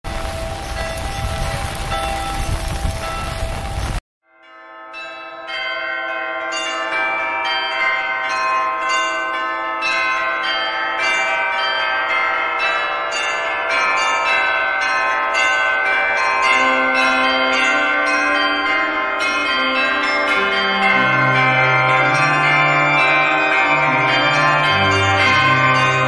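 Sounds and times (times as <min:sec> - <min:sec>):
church bells pealing: 0:00.1 - 0:26.0.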